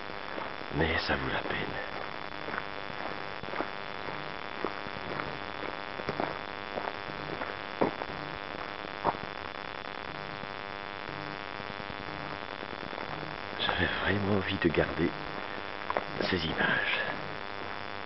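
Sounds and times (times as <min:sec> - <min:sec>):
steady hiss: 0:00.0 - 0:18.0
footsteps on stony dirt: 0:00.2 - 0:09.4, 0:12.0 - 0:18.0.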